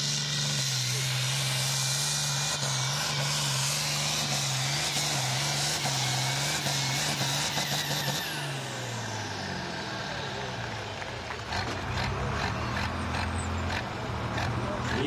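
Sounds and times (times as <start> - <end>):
tractor diesel engine labouring: 0.0 - 15.0.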